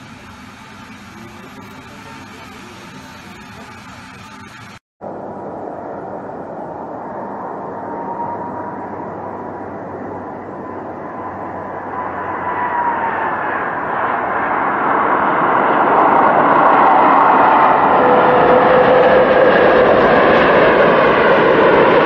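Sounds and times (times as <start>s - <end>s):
jet engines landing: 0.0s - 22.0s
steady engine whine: 0.0s - 22.0s.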